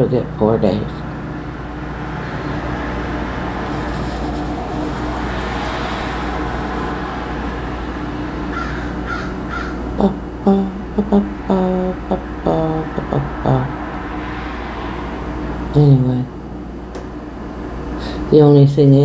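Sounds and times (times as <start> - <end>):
vehicle passing by: 0.6 - 18.3.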